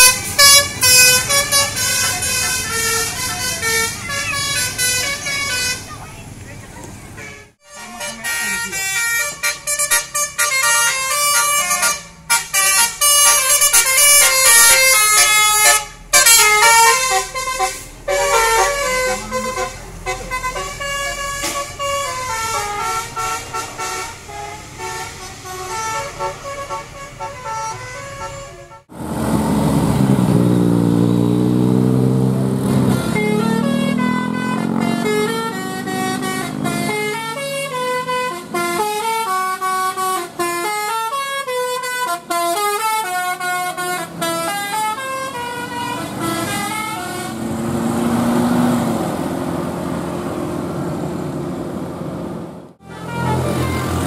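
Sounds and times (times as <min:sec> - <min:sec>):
bus horn melodies: 0:00.0 - 0:06.1, 0:07.2 - 0:29.0, 0:31.8 - 0:48.7, 0:52.8 - 0:54.0
bus engine pulling: 0:00.0 - 0:54.0.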